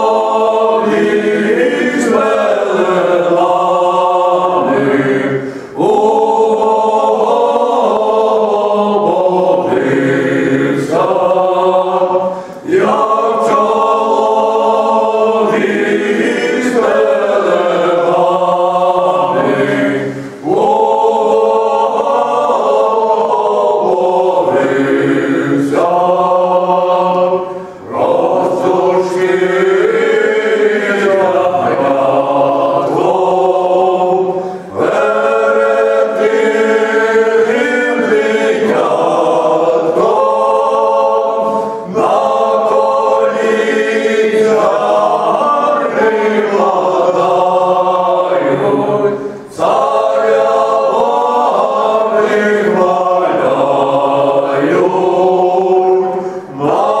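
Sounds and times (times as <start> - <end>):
men singing a cappella harmony: 0.0 - 57.0.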